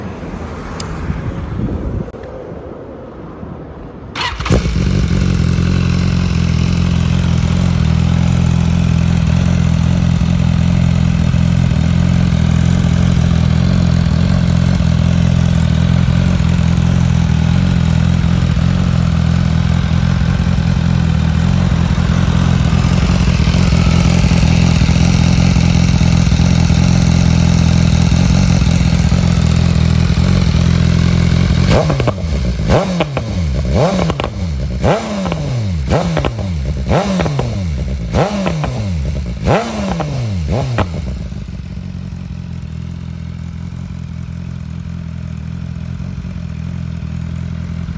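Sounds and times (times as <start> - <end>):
motorcycle engine idling: 4.2 - 47.9
motorcycle throttle blips: 4.2 - 47.9.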